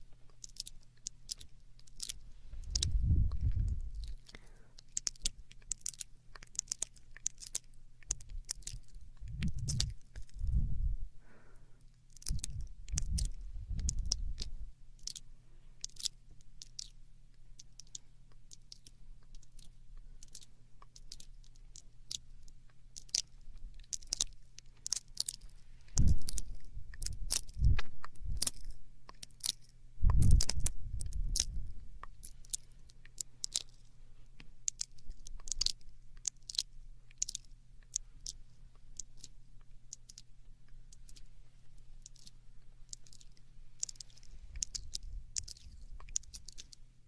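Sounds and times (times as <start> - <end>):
tongue and lip clicks: 0.1 - 15.2, 15.8 - 46.9.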